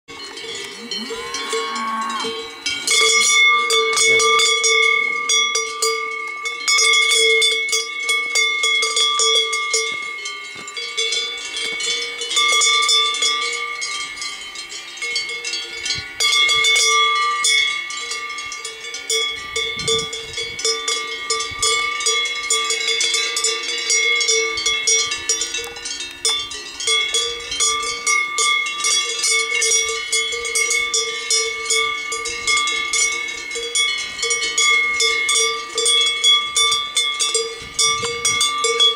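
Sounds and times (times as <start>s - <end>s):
cowbells clanging: 0.1s - 38.9s.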